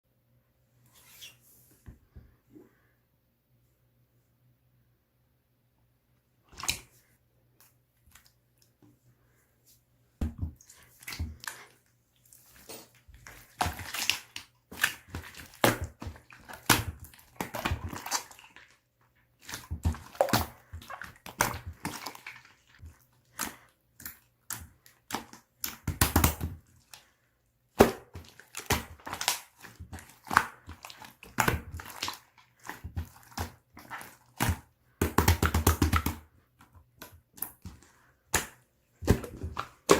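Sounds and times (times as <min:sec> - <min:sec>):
hands squishing slime: 0:06.5 - 0:08.8, 0:10.2 - 0:39.9.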